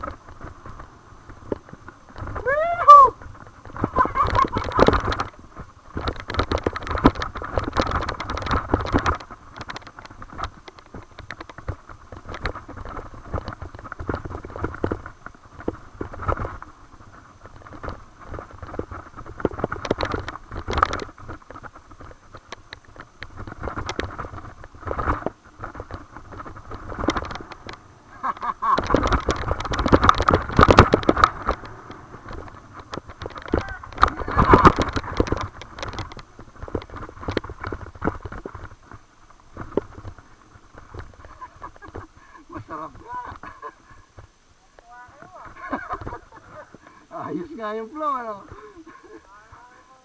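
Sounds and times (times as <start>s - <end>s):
bike chain and frame rattling: 0.0s - 50.0s
bike tyres rolling on rough ground: 0.0s - 50.0s.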